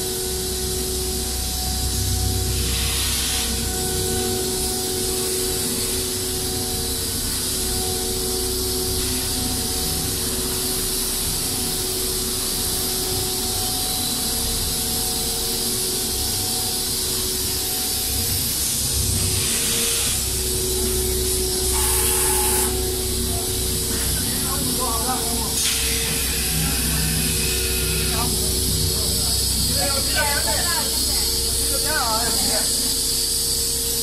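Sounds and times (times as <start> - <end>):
machinery hissing: 0.0 - 34.0
mechanical hum: 0.0 - 34.0.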